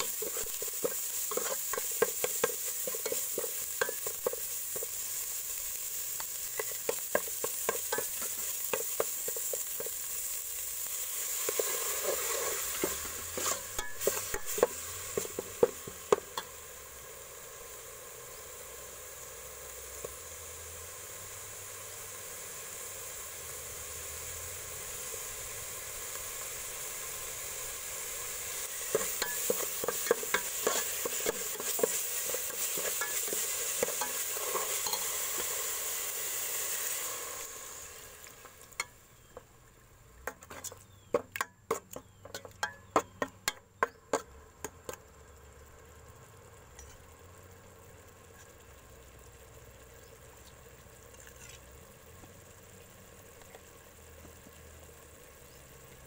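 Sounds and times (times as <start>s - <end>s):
faint hiss: 0.0s - 56.0s
paste sizzling in hot oil: 0.0s - 56.0s.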